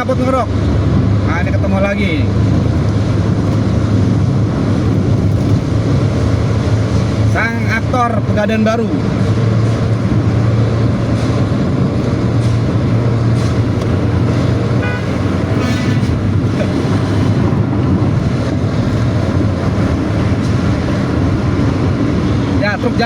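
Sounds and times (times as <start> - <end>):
diesel bus exhaust drone: 0.0 - 23.0.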